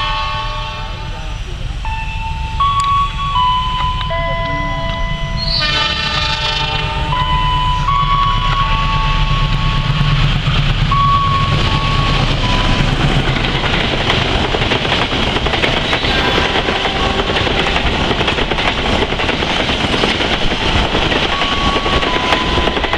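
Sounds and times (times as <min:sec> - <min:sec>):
diesel locomotive hum: 0:00.0 - 0:22.9
train wheels clattering on rails: 0:00.0 - 0:22.9.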